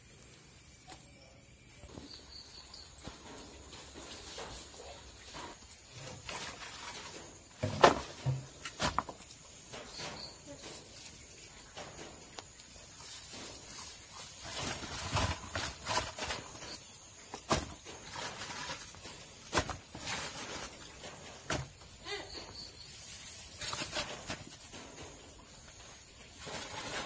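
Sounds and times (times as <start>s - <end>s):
rustling in plastic tub: 2.6s - 27.0s.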